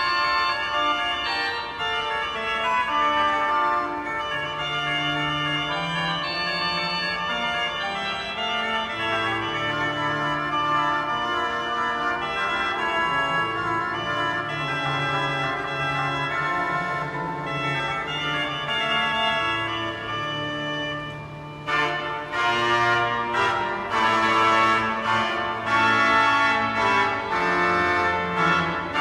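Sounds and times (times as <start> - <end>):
pipe organ sustained chords: 0.0 - 29.0.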